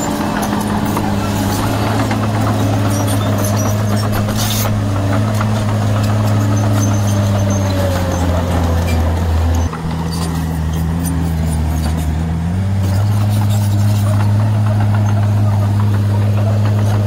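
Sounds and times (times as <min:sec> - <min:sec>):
bulldozer diesel engine: 0:00.0 - 0:17.0.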